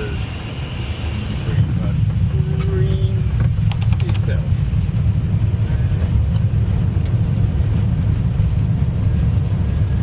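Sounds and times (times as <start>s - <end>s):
wheels rumbling on runway: 0.0s - 10.0s.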